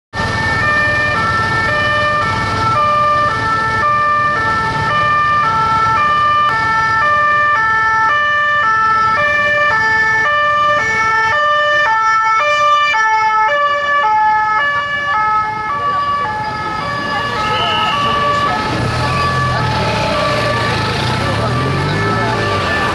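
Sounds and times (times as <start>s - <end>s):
two-tone police siren: 0.1s - 22.9s.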